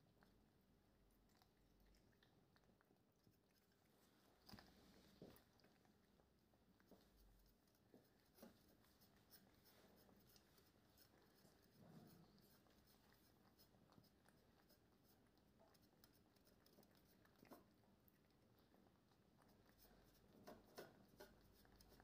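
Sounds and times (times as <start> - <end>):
cat chewing: 0.0 - 22.0.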